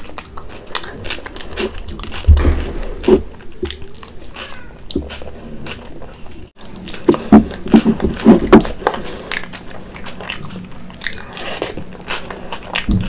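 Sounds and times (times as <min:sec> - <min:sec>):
woman chewing with wet smacking: 0:00.0 - 0:13.0.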